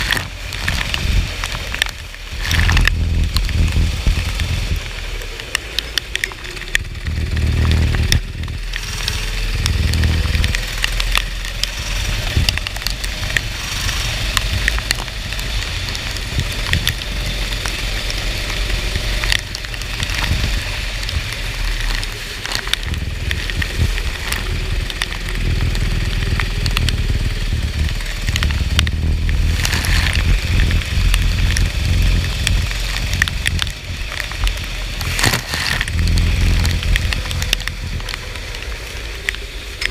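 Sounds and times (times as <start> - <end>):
sharp crackles and clicks: 0.0 - 39.9
wind and track spray noise: 0.0 - 39.9.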